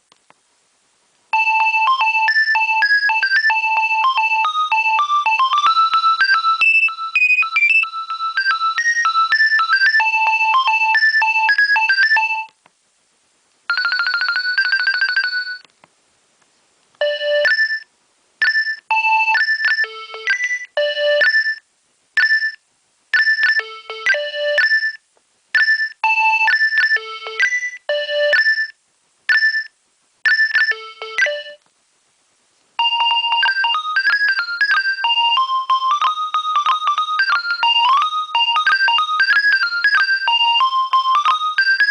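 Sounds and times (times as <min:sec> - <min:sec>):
mobile phone ringtones: 0:01.3 - 0:12.5, 0:13.7 - 0:15.7, 0:17.0 - 0:21.6, 0:22.2 - 0:25.0, 0:25.6 - 0:31.6, 0:32.8 - 0:41.9.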